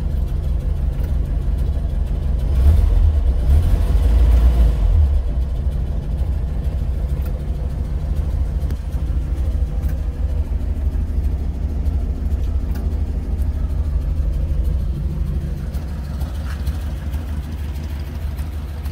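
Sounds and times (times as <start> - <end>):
pickup engine idling: 0.0 - 18.9.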